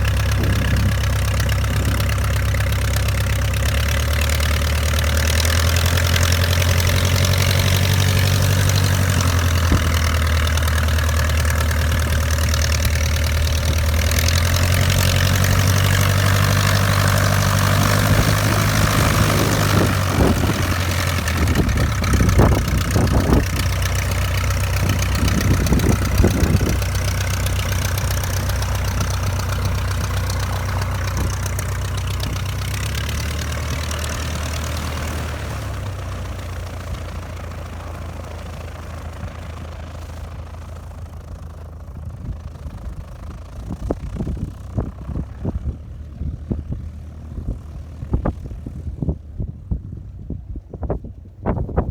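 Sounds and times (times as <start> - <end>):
aircraft piston engine idling: 0.0 - 51.9.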